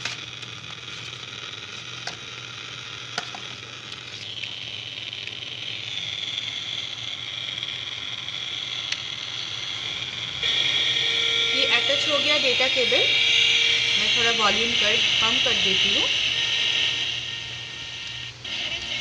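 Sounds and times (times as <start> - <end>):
radio static hissing: 0.0 - 19.0.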